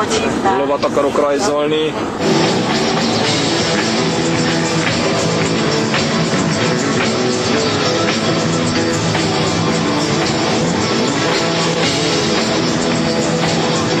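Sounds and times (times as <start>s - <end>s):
rock music with drums and guitar: 2.1s - 14.0s.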